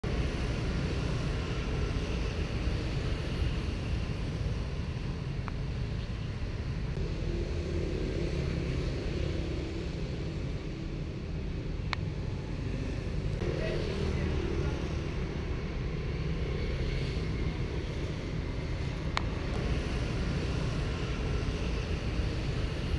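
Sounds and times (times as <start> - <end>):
low rumble of road traffic: 0.0 - 22.9.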